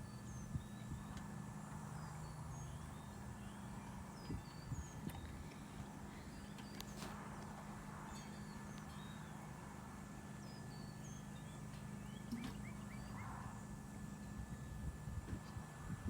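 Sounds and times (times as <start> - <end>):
small birds chirping: 0.0 - 14.3
steady low hum: 0.0 - 16.0.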